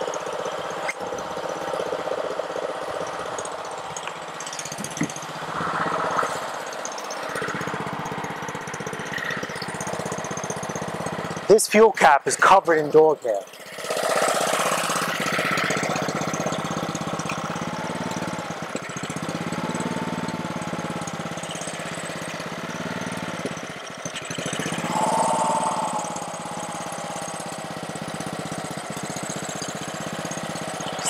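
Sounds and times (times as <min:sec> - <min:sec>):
pressure washer engine running unevenly: 0:00.0 - 0:31.0.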